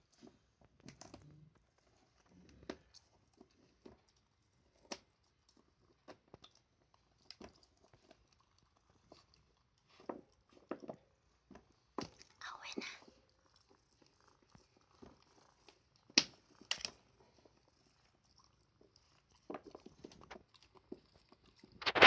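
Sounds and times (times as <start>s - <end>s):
dog gnawing on a chew: 2.0s - 12.4s, 13.3s - 22.0s.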